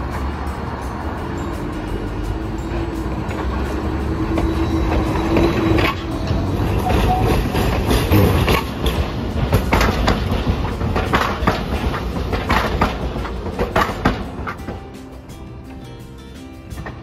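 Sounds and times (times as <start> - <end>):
tram wheels clacking over rails: 0.0 - 17.0.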